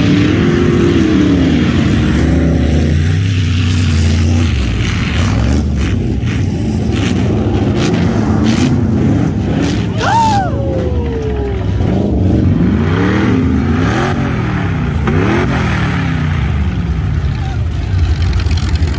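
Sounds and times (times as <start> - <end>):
race car engines revving: 0.0 - 18.9.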